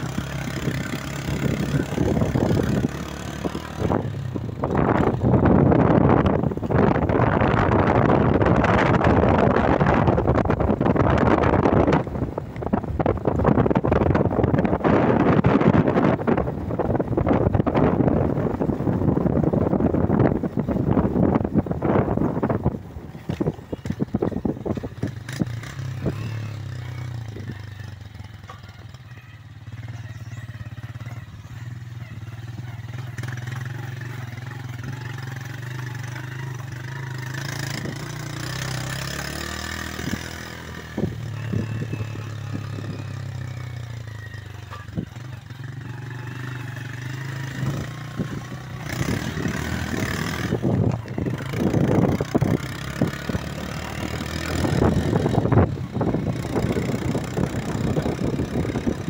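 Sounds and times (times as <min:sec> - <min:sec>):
small motorcycle engine running: 0:00.0 - 0:12.0, 0:23.2 - 0:59.0.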